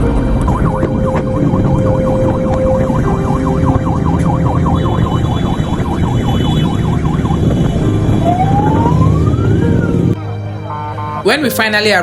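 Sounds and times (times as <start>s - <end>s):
engine and wind rumble: 0.0s - 10.2s
electronic siren yelping and wailing: 0.0s - 11.4s.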